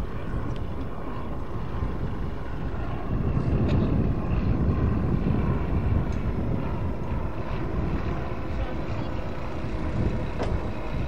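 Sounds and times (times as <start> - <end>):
light plane engine and propeller: 0.0 - 11.0
wind rumbling on microphone: 0.0 - 11.0.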